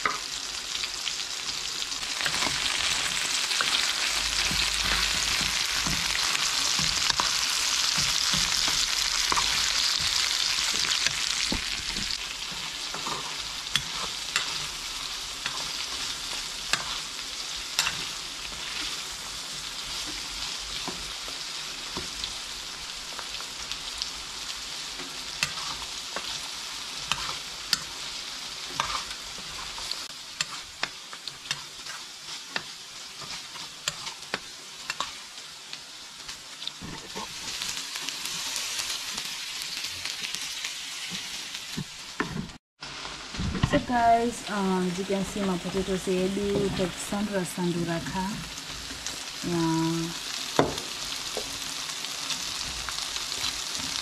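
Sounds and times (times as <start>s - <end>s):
food sizzling in a frying pan: 0.0s - 54.0s.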